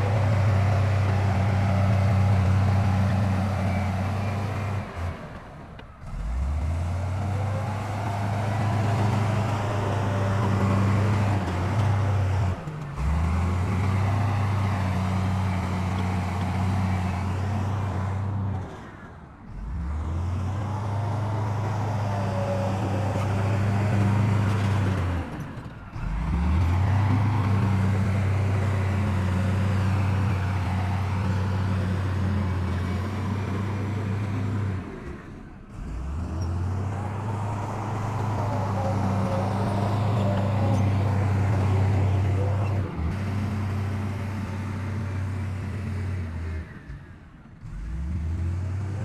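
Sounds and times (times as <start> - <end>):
heavy diesel engines droning: 0.0 - 49.0.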